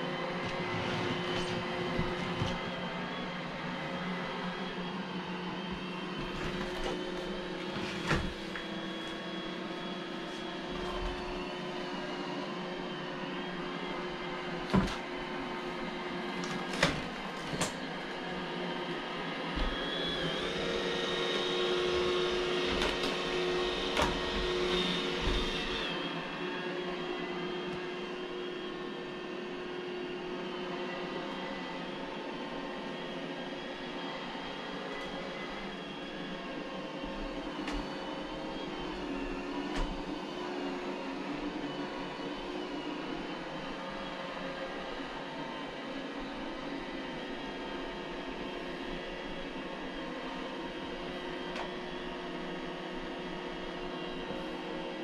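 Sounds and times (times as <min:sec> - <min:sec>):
robot vacuum whirring: 0:00.1 - 0:45.0.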